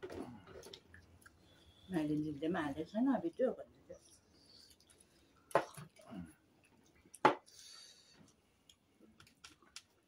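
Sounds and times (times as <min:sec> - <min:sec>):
faint eating noises: 0:00.0 - 0:10.0.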